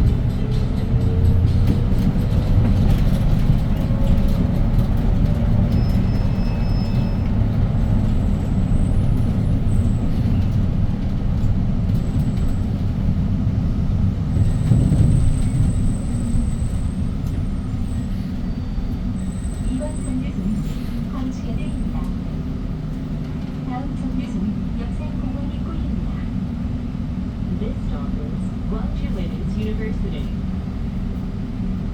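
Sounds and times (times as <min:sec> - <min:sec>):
bus engine rumbling: 0:00.0 - 0:31.9.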